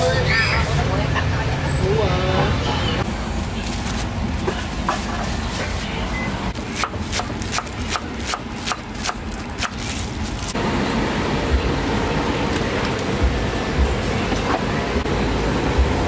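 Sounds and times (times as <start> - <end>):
low street traffic rumble: 0.0 - 16.0.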